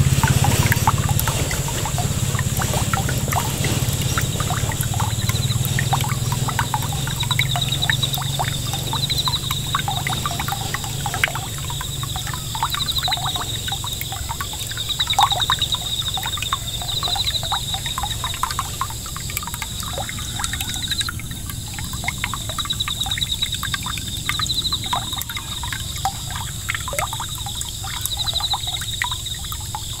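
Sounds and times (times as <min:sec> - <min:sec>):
fountain water splashing: 0:00.0 - 0:30.0.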